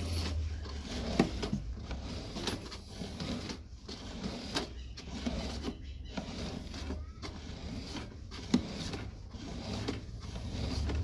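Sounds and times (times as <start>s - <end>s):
push rod rubbing and rattling: 0.0s - 11.0s.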